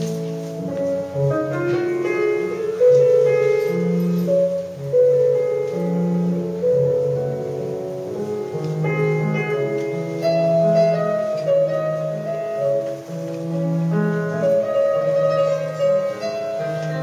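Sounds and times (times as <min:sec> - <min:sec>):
classical piano music: 0:00.0 - 0:17.0.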